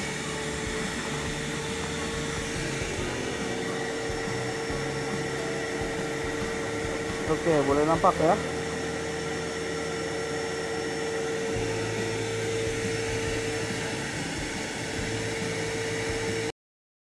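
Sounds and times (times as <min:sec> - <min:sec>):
deeper hum: 0:00.0 - 0:16.5
machinery humming: 0:00.0 - 0:16.5
steady whine: 0:00.0 - 0:16.5.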